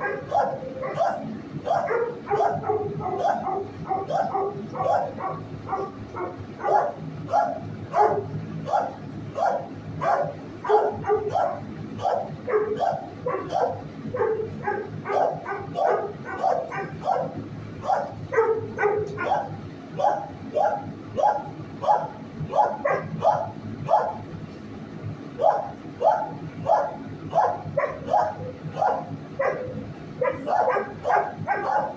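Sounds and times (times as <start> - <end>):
dogs barking: 0.0 - 24.5, 25.2 - 31.9.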